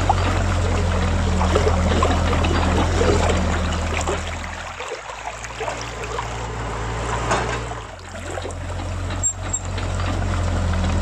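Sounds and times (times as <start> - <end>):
river water trickling: 0.0 - 11.0.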